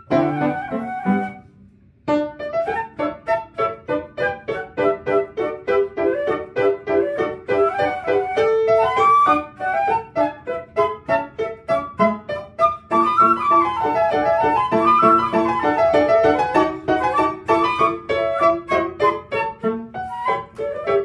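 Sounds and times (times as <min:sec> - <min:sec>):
flute melody: 0:00.0 - 0:21.0
piano repeated chords: 0:00.0 - 0:21.0.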